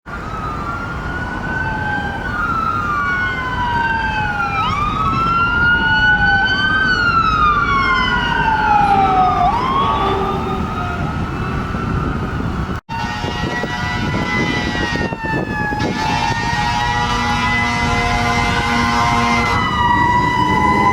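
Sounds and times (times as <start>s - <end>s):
fire engine sirens wailing: 0.1s - 20.9s
truck rumble: 0.1s - 20.9s.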